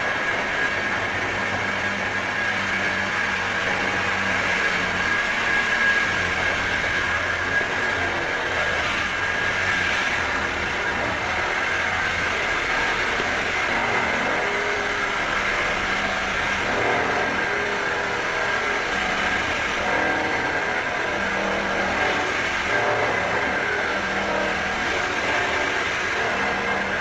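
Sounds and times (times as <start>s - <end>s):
electric drill running: 0.0s - 27.0s.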